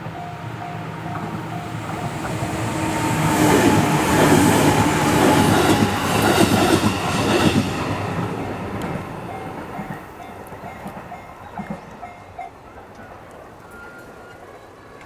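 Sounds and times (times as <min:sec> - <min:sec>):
crossing warning bell ringing: 0:00.0 - 0:14.4
train wheels on rails: 0:00.0 - 0:15.0.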